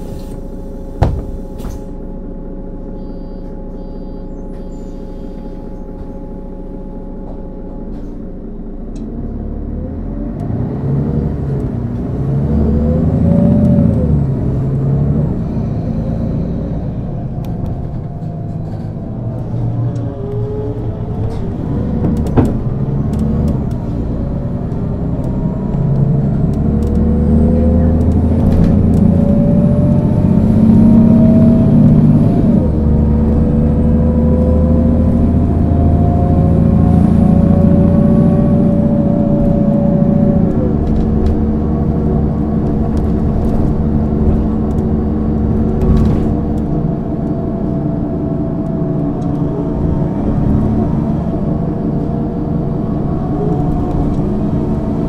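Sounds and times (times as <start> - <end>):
bus engine accelerating: 0.0 - 55.0.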